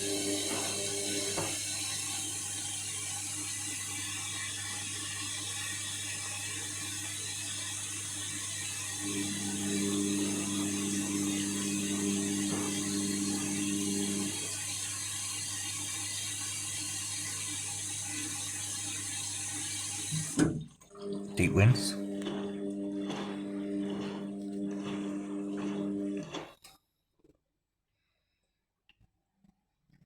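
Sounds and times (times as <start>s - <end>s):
washing machine motor whine: 0.0s - 26.4s.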